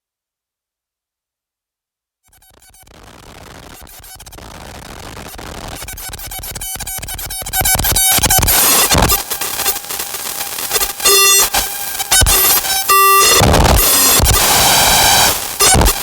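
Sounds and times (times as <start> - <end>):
distorted synthesizer noise drone: 2.3 - 16.0.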